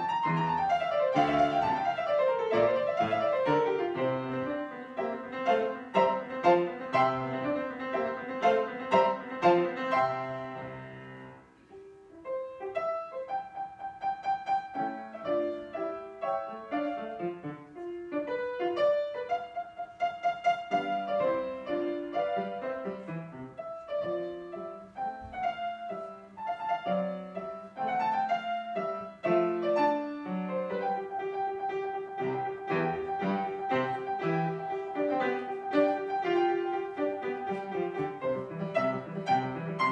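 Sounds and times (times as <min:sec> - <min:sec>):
piano playing classical music: 0:00.0 - 0:39.9.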